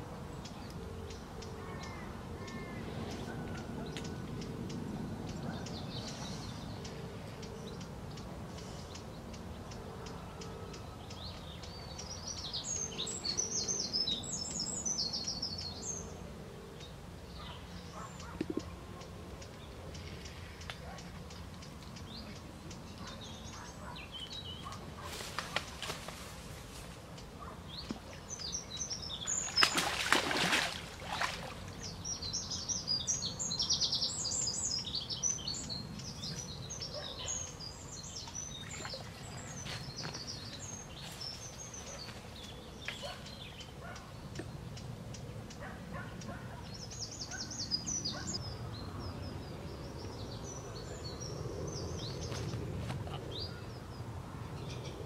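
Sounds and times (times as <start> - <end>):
birds singing and chirping: 0.0 - 55.0.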